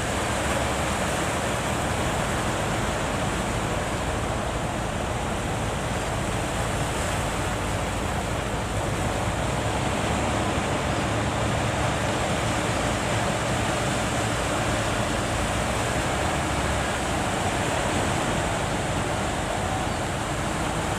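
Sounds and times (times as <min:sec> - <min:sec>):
waves breaking: 0:00.0 - 0:20.9.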